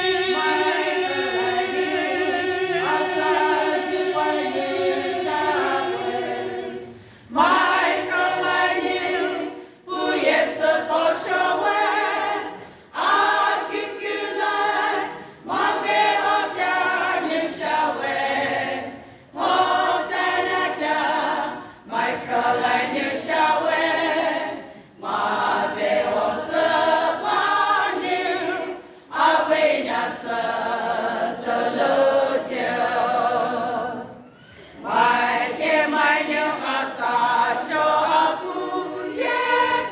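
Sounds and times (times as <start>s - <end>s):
women's choir singing unaccompanied: 0.0s - 39.9s.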